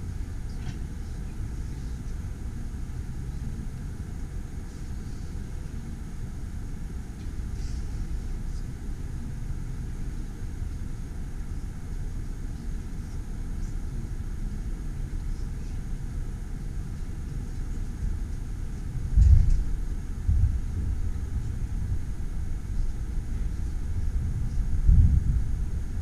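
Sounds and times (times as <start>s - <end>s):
train carriage low rumble: 0.0s - 26.0s.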